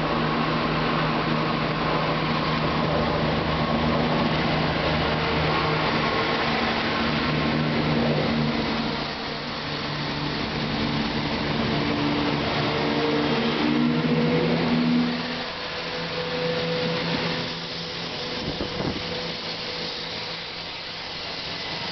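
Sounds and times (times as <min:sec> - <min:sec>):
approaching train: 0:00.0 - 0:21.9
diesel train engines droning: 0:00.0 - 0:21.9.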